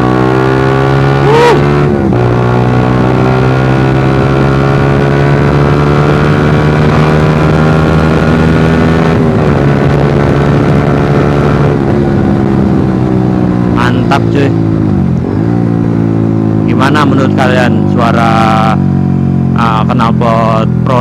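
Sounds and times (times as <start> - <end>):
motorcycle engine at speed: 0.0 - 21.0.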